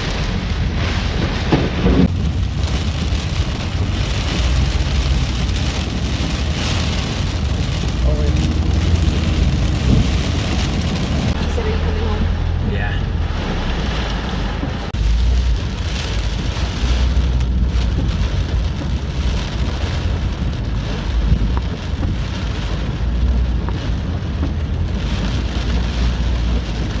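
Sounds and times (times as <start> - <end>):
heavy rain: 0.0 - 27.0
hurricane wind: 0.0 - 27.0
wind rumble on microphone: 0.0 - 27.0.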